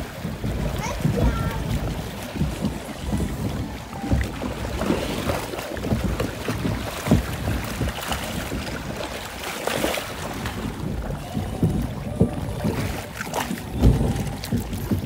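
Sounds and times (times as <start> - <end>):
boat knocks and bumps: 0.0 - 15.0
rushing sloshing water: 0.0 - 15.0
wind buffeting microphone: 0.0 - 15.0.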